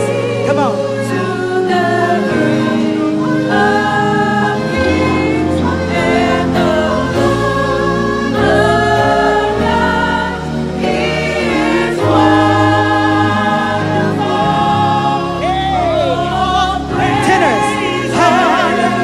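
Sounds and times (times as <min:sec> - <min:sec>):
gospel choir singing: 0:00.0 - 0:19.0
sopranos singing call-and-response: 0:00.0 - 0:19.0.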